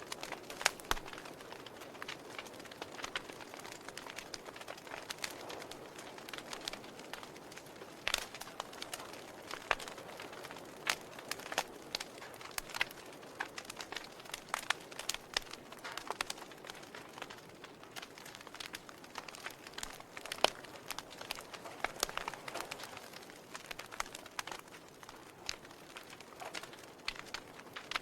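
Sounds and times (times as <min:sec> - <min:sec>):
logs crackling in a fireplace: 0:00.0 - 0:28.0.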